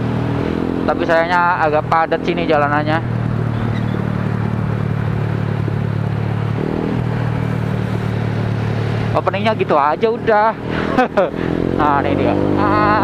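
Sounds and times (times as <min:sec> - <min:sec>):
road noise: 0:00.0 - 0:13.0
scooter engine humming: 0:00.0 - 0:13.0.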